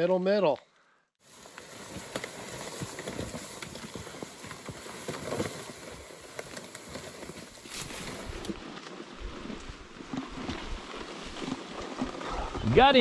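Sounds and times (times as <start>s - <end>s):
footsteps crunching on leaves: 1.2s - 12.3s
plastic sled scraping on ground: 1.3s - 13.0s.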